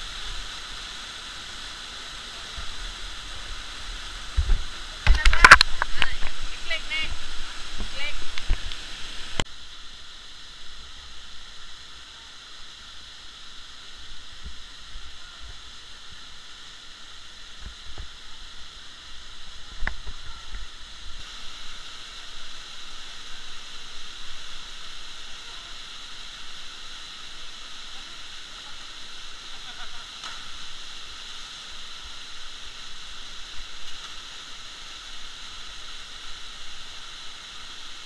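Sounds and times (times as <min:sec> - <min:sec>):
river and waterfalls rushing: 0:00.0 - 0:38.0.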